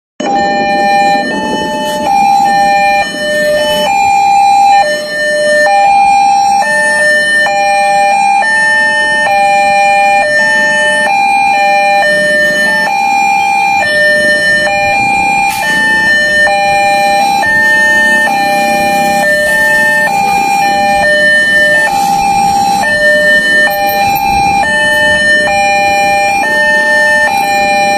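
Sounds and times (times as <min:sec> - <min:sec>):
two-tone level crossing alarm: 0:00.2 - 0:27.9.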